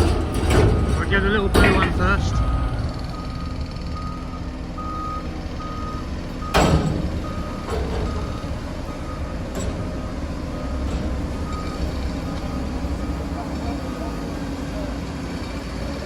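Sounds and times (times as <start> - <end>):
diesel engine rumble: 0.0 - 16.0
reversing alarm beeping: 0.9 - 14.5.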